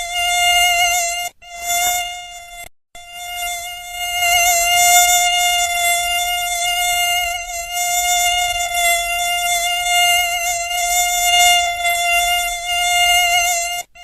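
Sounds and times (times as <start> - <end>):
mosquito whining: 0.0 - 14.0.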